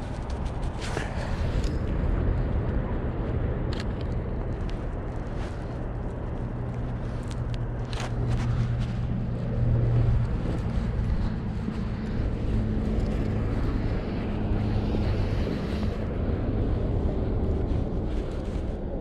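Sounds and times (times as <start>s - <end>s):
distant engine humming: 0.0s - 18.0s
traffic noise: 0.0s - 19.0s
wind: 0.0s - 19.0s.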